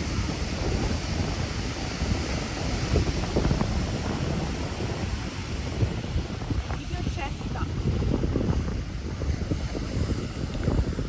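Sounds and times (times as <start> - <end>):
ocean surf washing: 0.0 - 11.0
wind buffeting microphone: 0.0 - 11.0.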